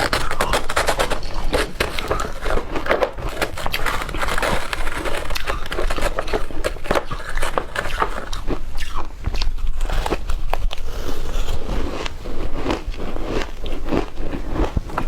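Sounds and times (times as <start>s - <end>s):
ice crunching being chewed: 0.0s - 15.0s.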